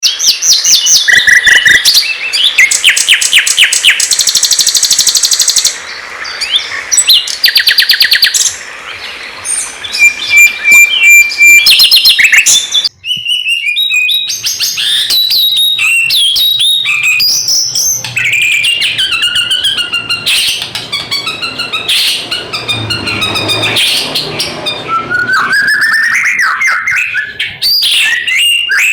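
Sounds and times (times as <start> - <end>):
songbirds trilling and whistling: 0.0 - 28.9.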